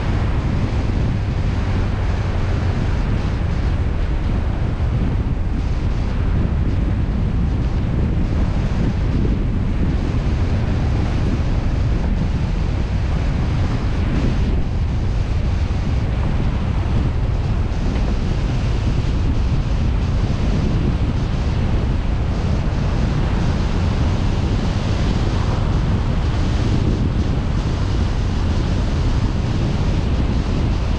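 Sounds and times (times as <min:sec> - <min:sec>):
car road noise rumble: 0:00.0 - 0:30.9
wind buffeting microphone: 0:00.0 - 0:30.9.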